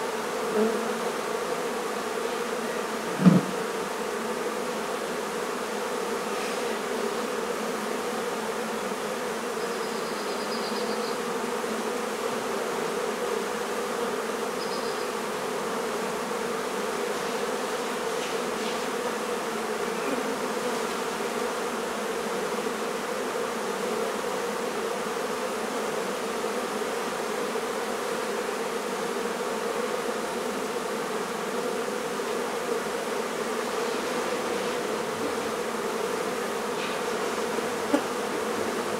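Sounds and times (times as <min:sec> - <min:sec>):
honey bees buzzing: 0:00.0 - 0:38.9.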